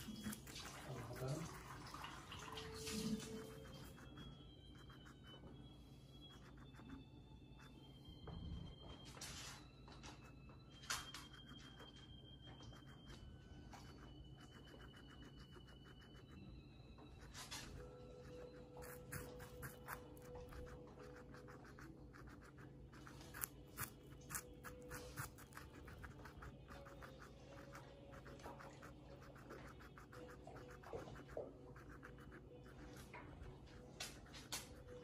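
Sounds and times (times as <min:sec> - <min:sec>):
guinea pig crunching: 0:00.0 - 0:05.5, 0:06.2 - 0:07.7, 0:10.0 - 0:35.0.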